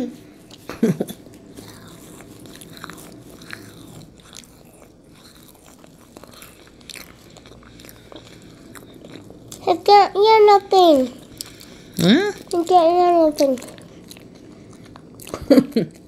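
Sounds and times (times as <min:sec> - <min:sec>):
soft sticky chewing sounds: 0:00.2 - 0:09.9, 0:10.9 - 0:16.0.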